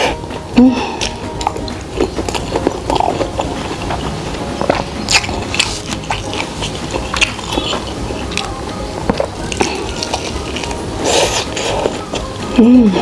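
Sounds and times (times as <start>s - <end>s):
person chewing crunchy food: 0.8s - 13.0s.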